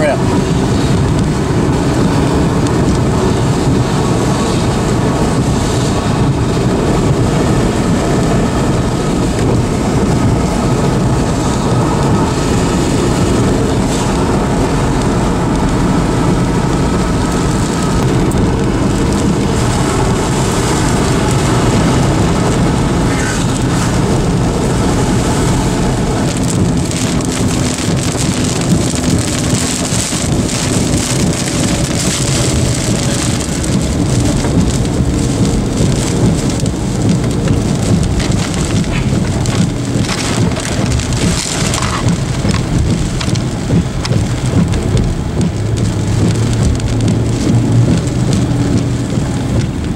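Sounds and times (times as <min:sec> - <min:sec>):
rain pattering on car: 0:00.0 - 0:49.9
tyres on wet road: 0:00.0 - 0:49.9
wind on car: 0:00.0 - 0:49.9.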